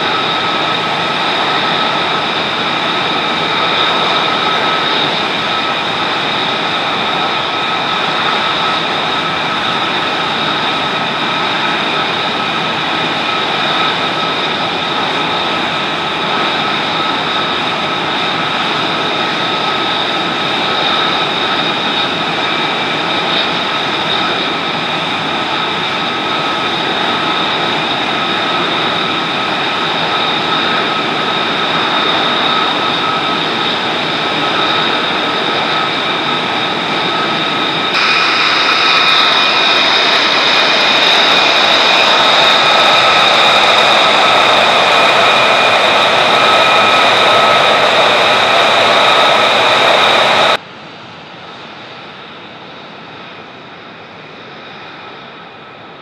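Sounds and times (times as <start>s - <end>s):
high-pitched engine whine: 0.0s - 56.0s
jet engine idling: 0.0s - 56.0s.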